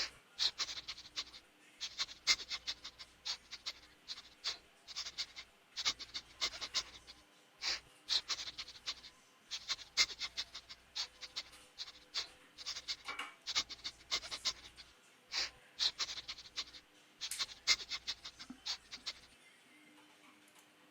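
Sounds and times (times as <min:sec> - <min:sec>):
rats squeaking: 0:00.0 - 0:19.3.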